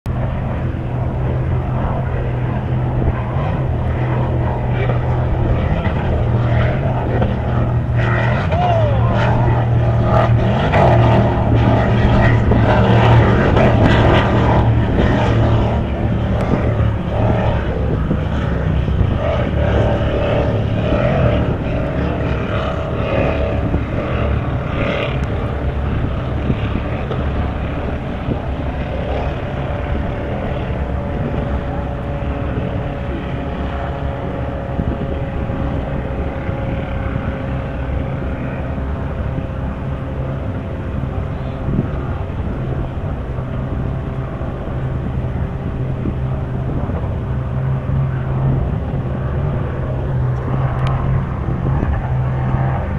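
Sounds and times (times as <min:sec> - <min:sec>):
powerboat engines droning: 0:00.1 - 0:52.9.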